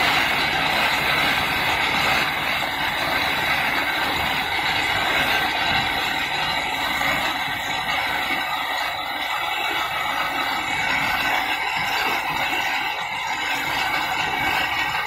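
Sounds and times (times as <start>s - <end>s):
abrasive wheel running: 0.0s - 15.0s.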